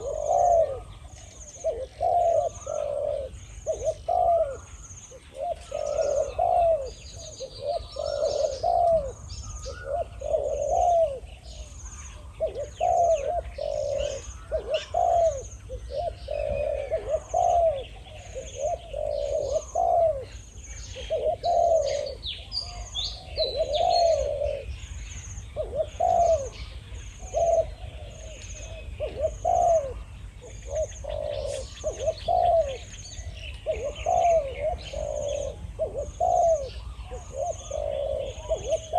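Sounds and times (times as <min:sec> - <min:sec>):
doves cooing: 0:00.0 - 0:38.9
small birds chirping: 0:00.0 - 0:38.9.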